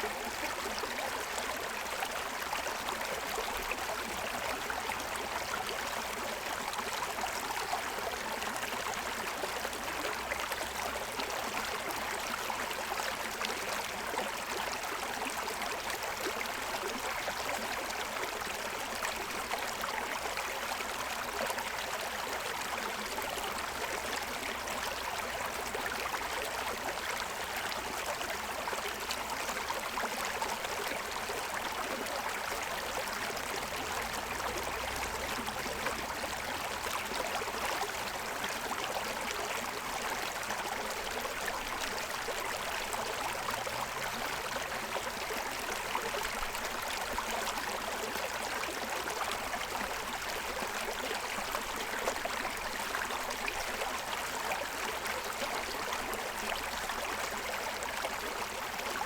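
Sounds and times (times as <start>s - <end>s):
stream babbling over stones: 0.0s - 59.0s.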